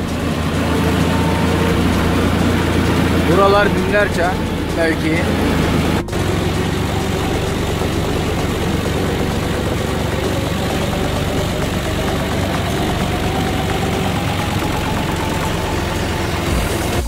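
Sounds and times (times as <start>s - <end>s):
thin rising whine: 0.0s - 17.0s
tractor engine running: 0.0s - 17.0s.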